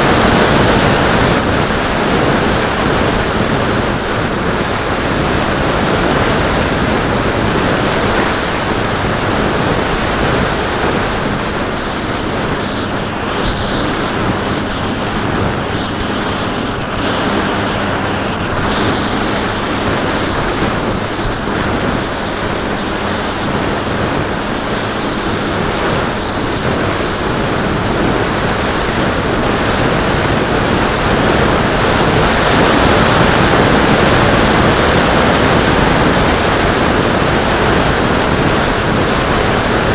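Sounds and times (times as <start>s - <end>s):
electric motor and propeller hum: 0.0s - 39.9s
wind rushing over microphone: 0.0s - 39.9s.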